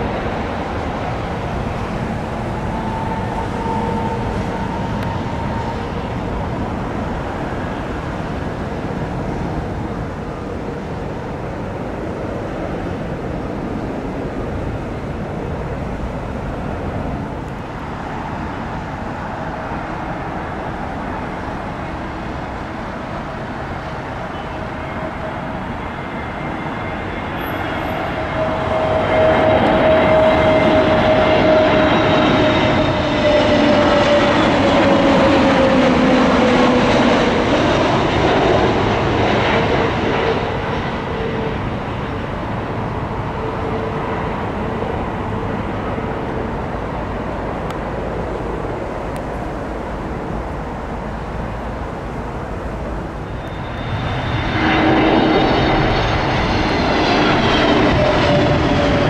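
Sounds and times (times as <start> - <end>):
jet airliner engine noise: 0.0 - 59.0
jet engine whine falling in pitch: 0.0 - 59.0.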